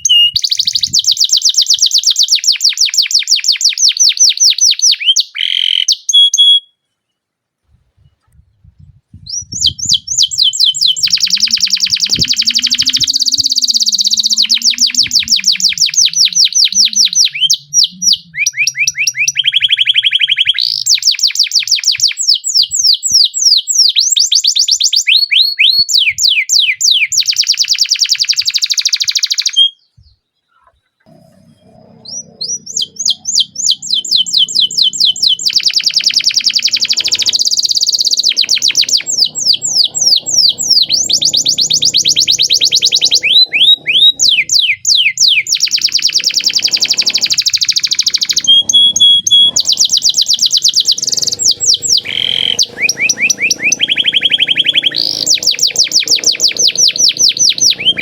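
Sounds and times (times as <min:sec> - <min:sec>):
canary singing trills: 0:00.0 - 0:07.2, 0:09.1 - 0:58.0.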